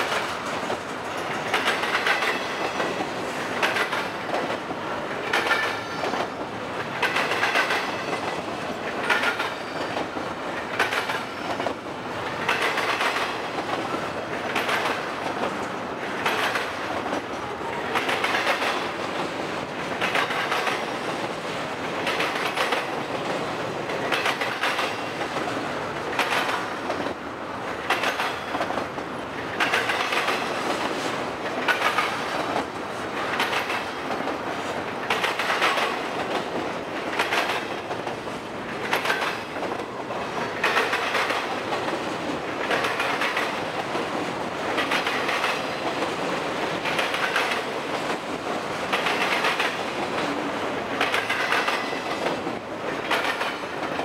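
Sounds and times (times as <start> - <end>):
freight train wheels rumbling: 0.0 - 54.0
wheels clacking over rail joints: 0.0 - 54.0.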